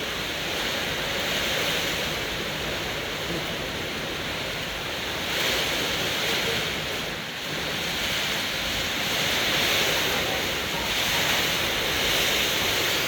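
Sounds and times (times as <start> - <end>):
heavy rain pouring: 0.0 - 13.0
wind storm: 0.0 - 13.0.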